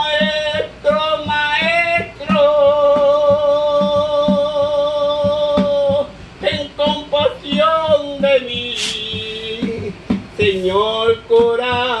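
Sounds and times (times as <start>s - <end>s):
man singing into a bucket: 0.0s - 12.0s
steady low beat: 0.0s - 12.0s.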